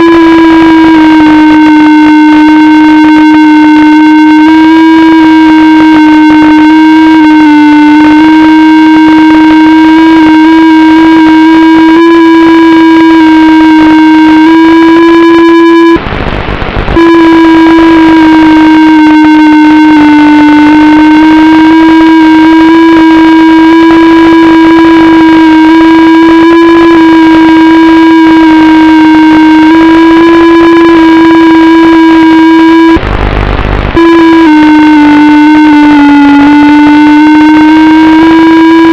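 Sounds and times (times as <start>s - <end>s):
electric motors whining: 0.0s - 38.9s
noisy rumble: 0.0s - 38.9s.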